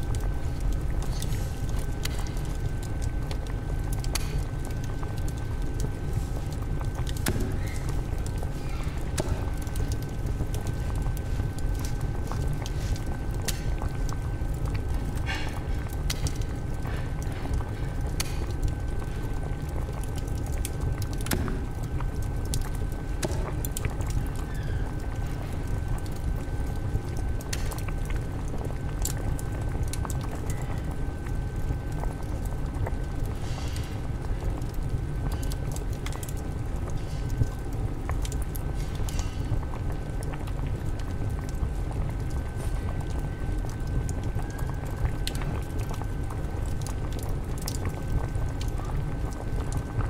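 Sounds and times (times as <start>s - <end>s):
water boiling and bubbling: 0.0s - 50.0s.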